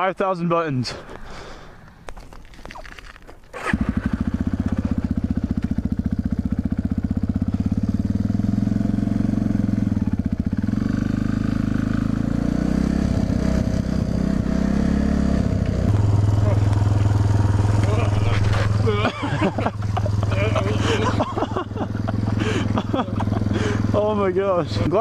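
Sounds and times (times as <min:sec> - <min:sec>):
motorcycle engine running: 0:02.8 - 0:25.0.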